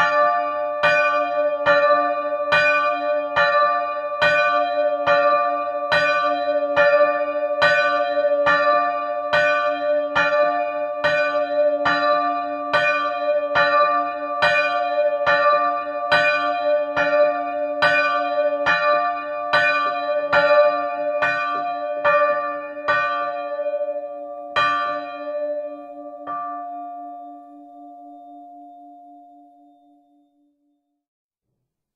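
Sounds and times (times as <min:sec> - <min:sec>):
church bell ringing: 0:00.0 - 0:30.3.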